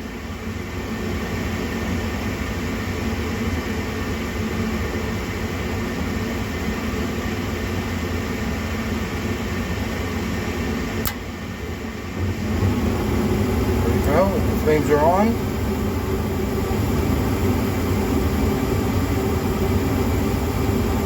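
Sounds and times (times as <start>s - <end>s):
gas furnace fan rushing: 0.0s - 21.0s
low hum: 0.0s - 21.0s.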